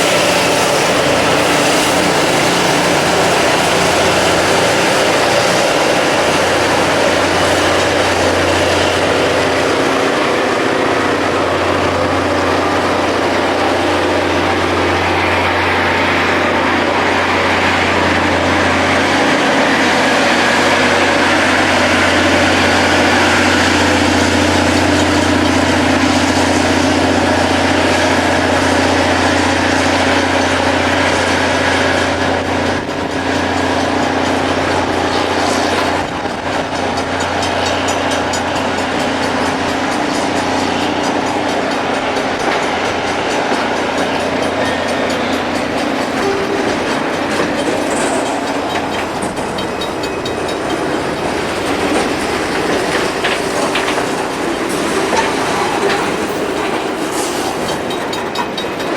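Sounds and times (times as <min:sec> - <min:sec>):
rail grinding roar: 0:00.0 - 0:58.9.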